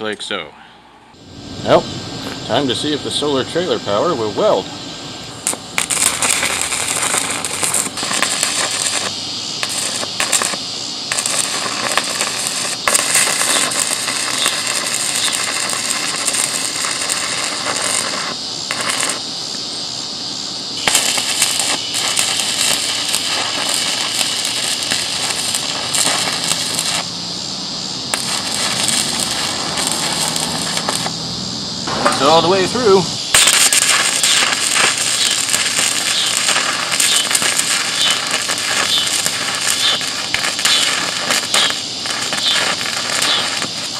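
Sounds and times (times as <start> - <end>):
arc welder crackling and sizzling: 1.2 - 43.9.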